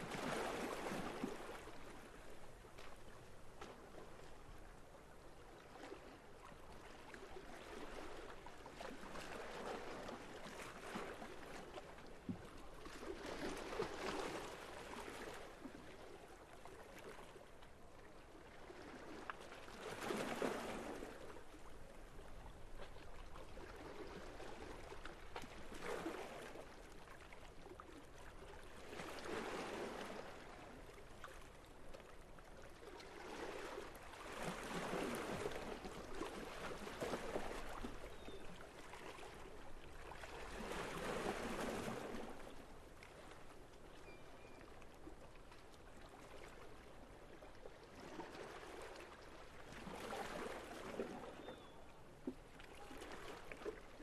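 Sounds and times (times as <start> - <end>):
small waves lapping: 0.0 - 54.0.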